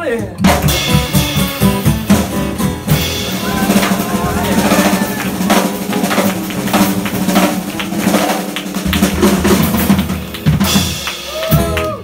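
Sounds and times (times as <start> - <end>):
drum kit: 0.0 - 12.0
upright bass: 0.0 - 12.0.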